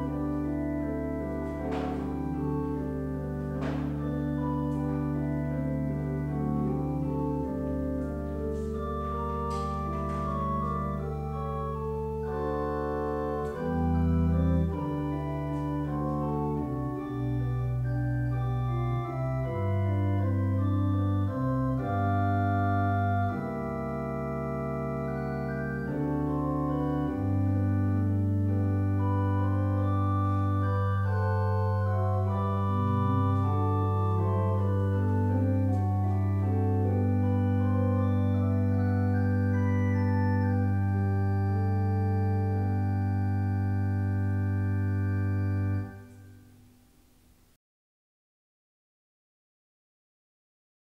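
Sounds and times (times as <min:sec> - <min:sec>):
church organ chords: 0:00.0 - 0:47.2.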